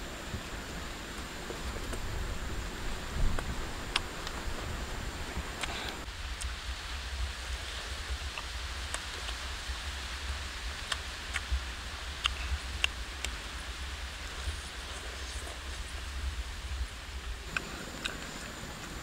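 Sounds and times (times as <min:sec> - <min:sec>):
faint hiss: 0:00.0 - 0:19.0.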